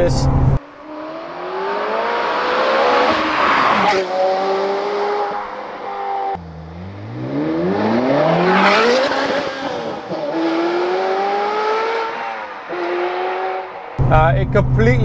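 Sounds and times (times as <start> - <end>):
sports car accelerating hard: 0.3 - 15.0.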